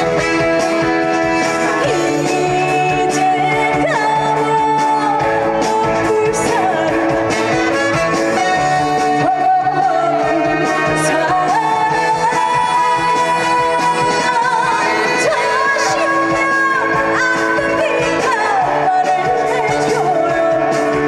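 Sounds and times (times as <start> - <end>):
band backing music: 0.0 - 21.0
woman singing: 0.0 - 21.0.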